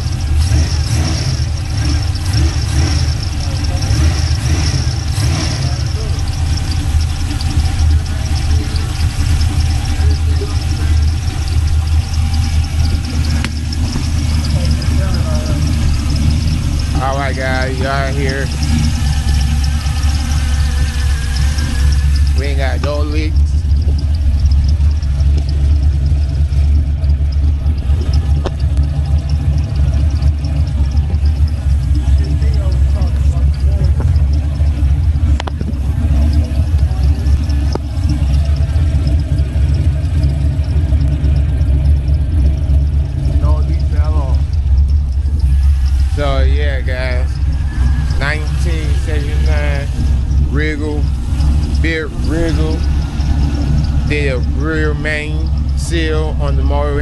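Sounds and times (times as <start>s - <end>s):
car engine idling: 0.0s - 57.0s
rapid engine ticking: 0.0s - 57.0s.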